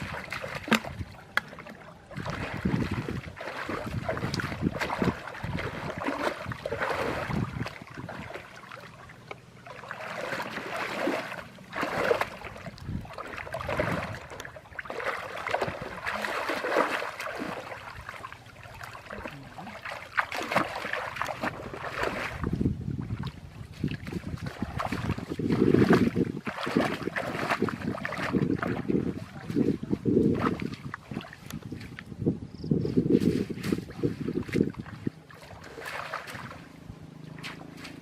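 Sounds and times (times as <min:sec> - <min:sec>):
water splashing and sloshing: 0:00.0 - 0:38.0.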